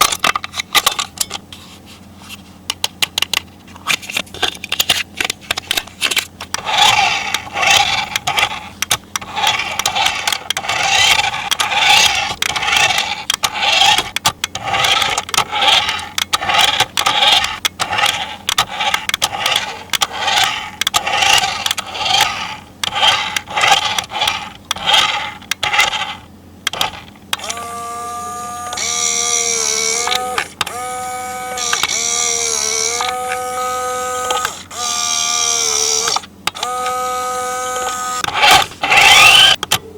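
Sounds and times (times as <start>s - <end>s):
toy electric whirring: 0.0s - 1.1s, 3.2s - 39.9s.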